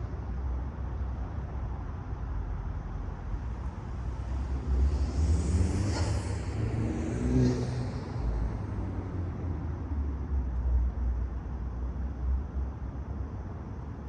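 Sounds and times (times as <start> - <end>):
car engine rumble: 0.0 - 14.0.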